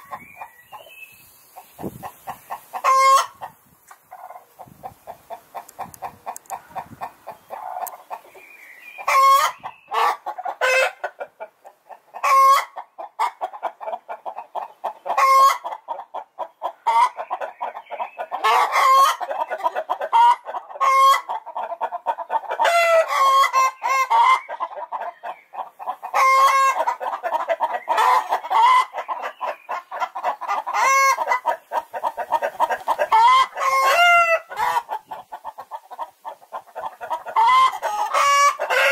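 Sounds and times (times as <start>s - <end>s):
hens clucking: 0.0s - 38.9s
hens cackling loudly: 1.6s - 8.4s, 9.0s - 38.9s.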